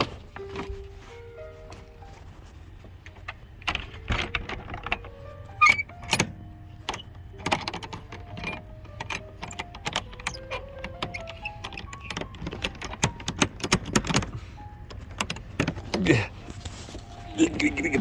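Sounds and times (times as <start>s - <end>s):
clicks clatters and knocks: 0.0s - 17.4s.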